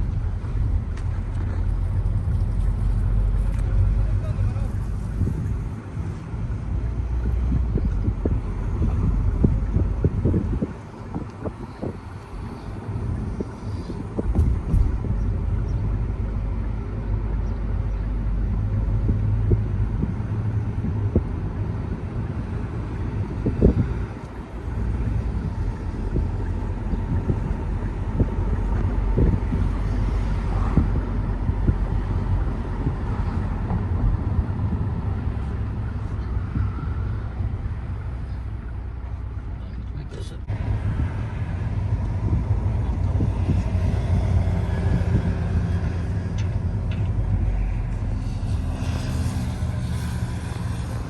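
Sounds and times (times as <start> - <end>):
low rumble: 0.0 - 51.0
wind buffeting microphone: 0.0 - 51.0.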